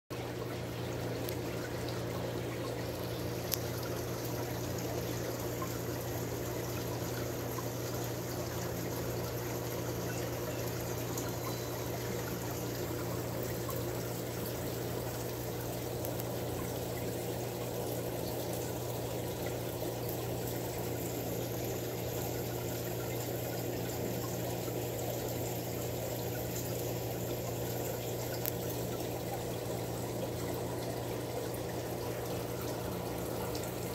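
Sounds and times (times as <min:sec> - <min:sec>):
low even hum: 0:00.2 - 0:33.9
water trickling and pouring: 0:00.2 - 0:33.9.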